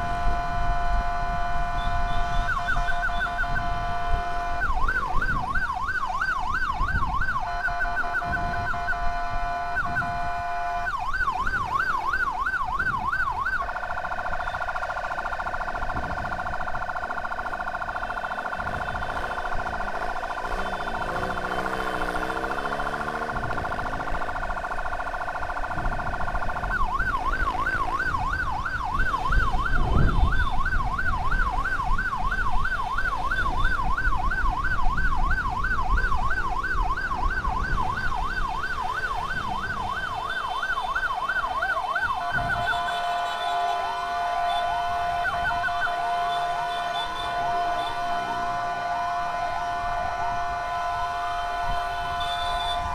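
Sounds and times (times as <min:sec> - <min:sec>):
emergency vehicle siren: 0:00.0 - 0:52.9
traffic rumble: 0:00.0 - 0:52.9
wind: 0:00.0 - 0:52.9.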